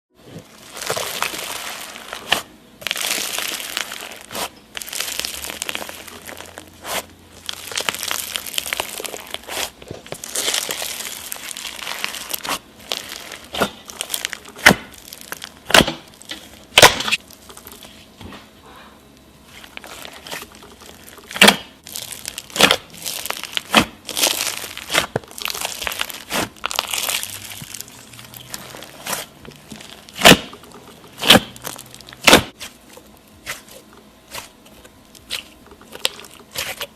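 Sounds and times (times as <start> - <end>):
slime squeezed crackling: 0.3 - 18.1, 19.4 - 36.9
slime popping: 0.5 - 18.0, 19.5 - 36.9.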